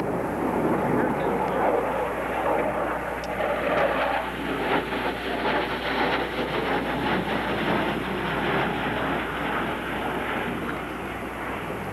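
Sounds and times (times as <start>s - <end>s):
jet fighter roar overhead: 0.0s - 11.9s.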